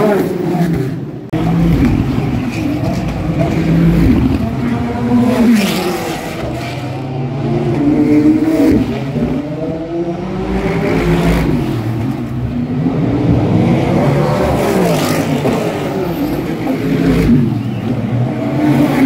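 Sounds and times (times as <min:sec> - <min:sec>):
racing cars passing at speed: 0:00.0 - 0:19.0.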